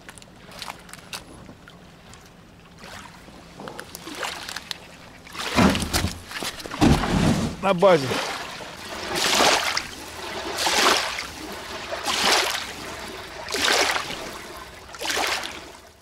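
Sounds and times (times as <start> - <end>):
water sloshing: 0.0 - 15.9.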